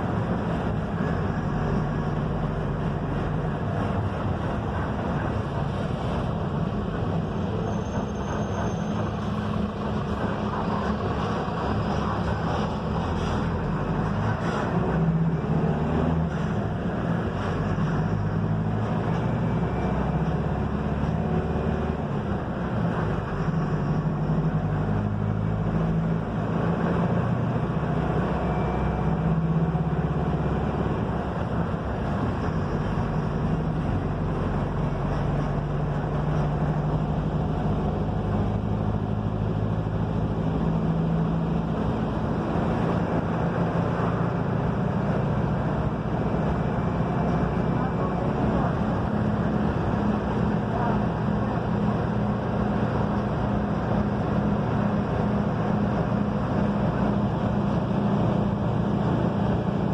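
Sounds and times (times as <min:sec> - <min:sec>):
bus diesel engine running: 0:00.0 - 0:59.9
road rumble: 0:00.0 - 0:59.9.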